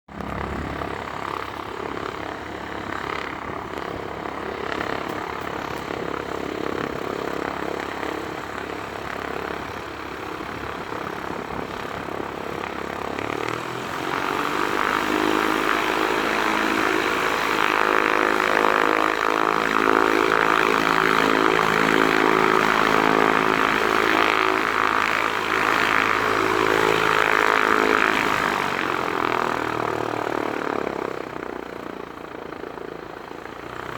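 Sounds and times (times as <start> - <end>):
jet engines spooling up: 0.1 - 31.5.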